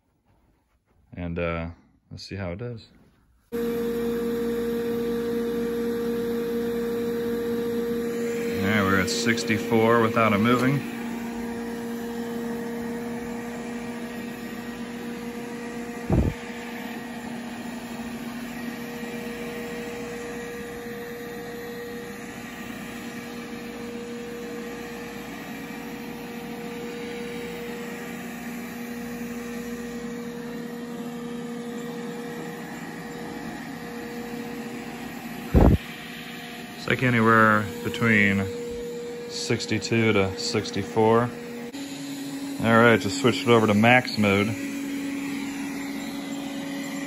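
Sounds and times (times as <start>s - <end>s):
robot vacuum fan whirring: 3.5s - 47.0s.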